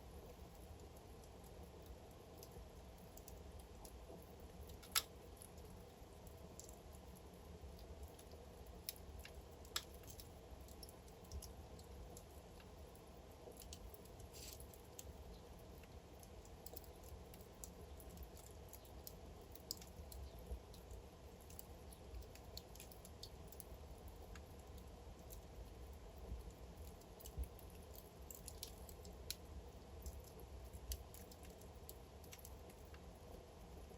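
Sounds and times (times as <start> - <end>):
low rush of burning logs: 0.0 - 33.9
wood fire pops and snaps: 2.4 - 7.0, 7.6 - 24.6, 25.2 - 33.9.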